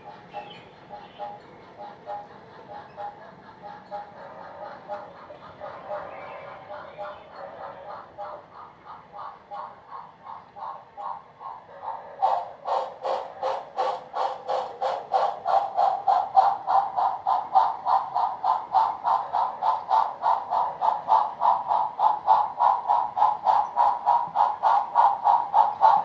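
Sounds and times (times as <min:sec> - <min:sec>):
model steam locomotive chuffs: 0:00.0 - 0:26.0.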